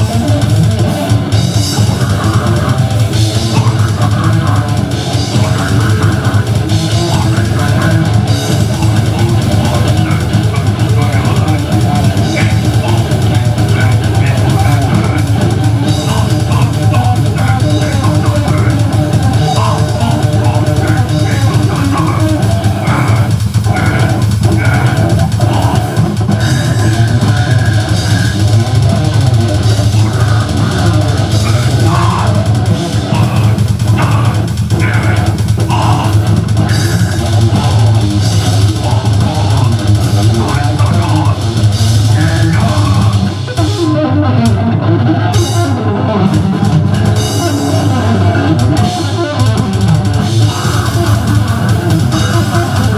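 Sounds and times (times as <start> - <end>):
drum kit: 0.0 - 52.9
electric guitar riffing: 0.0 - 52.9
vocals into microphone: 0.0 - 52.9.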